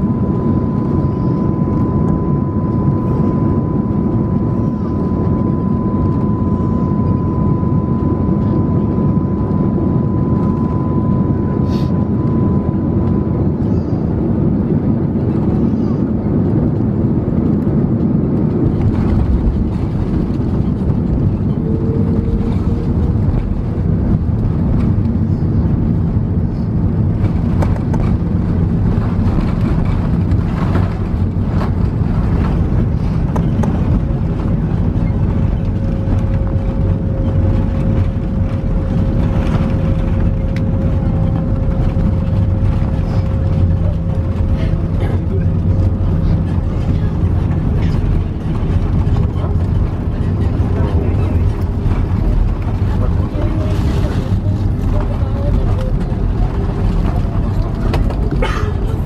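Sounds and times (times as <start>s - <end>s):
aircraft cabin rumble: 0.0s - 59.0s
steady whine: 0.0s - 59.0s.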